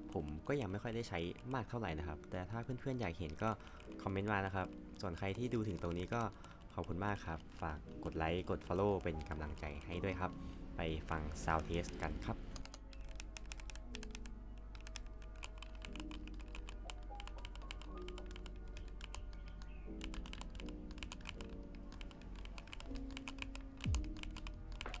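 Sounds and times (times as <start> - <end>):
mechanical keyboard typing: 0.0 - 10.4, 11.5 - 25.0
background music: 0.0 - 25.0.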